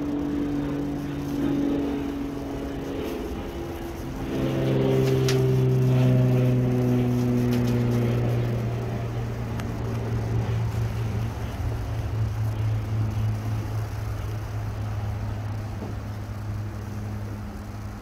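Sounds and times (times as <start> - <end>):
faint clicks and rustles: 0.0 - 18.0
low engine hum: 0.0 - 18.0.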